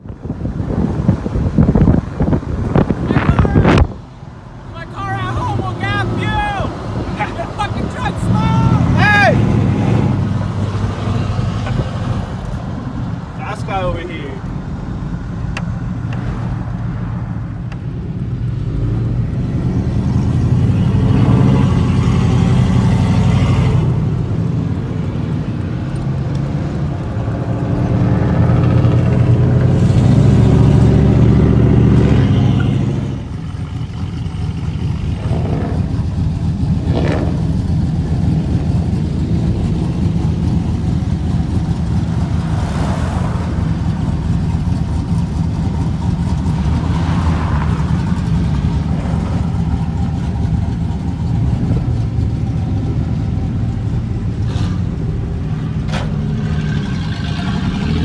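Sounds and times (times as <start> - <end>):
vehicle engine low rumble: 0.0 - 58.0.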